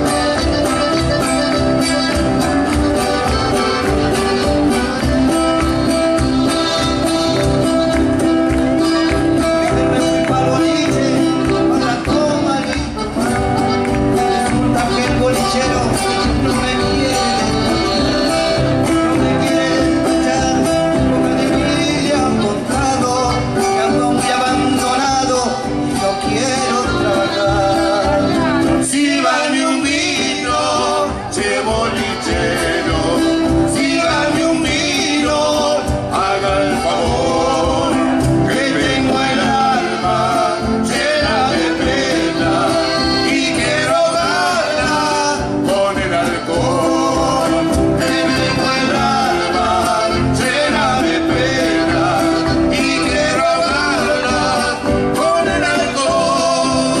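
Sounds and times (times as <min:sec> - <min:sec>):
guitar accompaniment: 0:00.0 - 0:57.0
man singing: 0:00.0 - 0:57.0.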